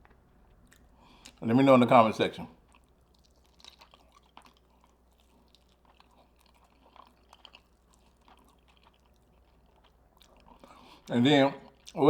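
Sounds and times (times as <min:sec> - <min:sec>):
chewing with mouth clicks: 0:00.0 - 0:01.5, 0:02.5 - 0:12.0.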